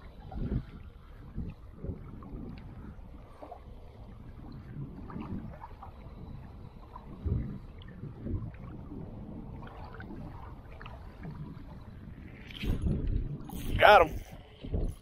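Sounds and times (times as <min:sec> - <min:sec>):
choppy lake water: 0:00.0 - 0:15.0
wind rumbling on microphone: 0:00.0 - 0:15.0.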